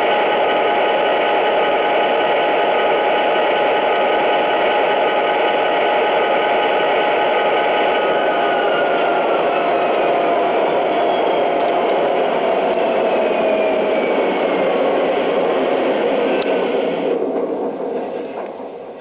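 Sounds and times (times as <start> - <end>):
model train wheels rolling and whirring: 0.0 - 19.0.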